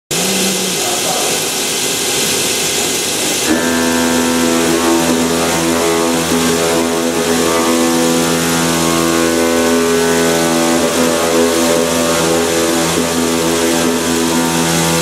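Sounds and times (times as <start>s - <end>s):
machine hum with hiss: 0.1s - 15.0s.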